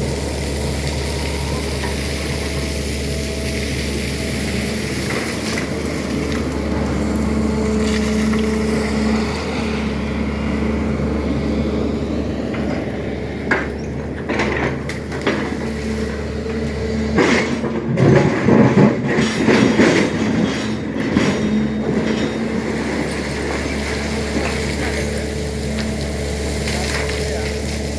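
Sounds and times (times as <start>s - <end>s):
excavator engine running: 0.0s - 27.9s.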